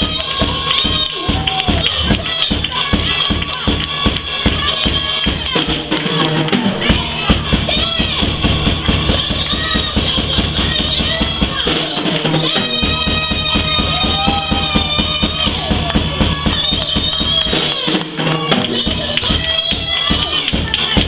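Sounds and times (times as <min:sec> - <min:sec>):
drum kit beat: 0:00.0 - 0:21.0
gospel band music: 0:00.0 - 0:21.0.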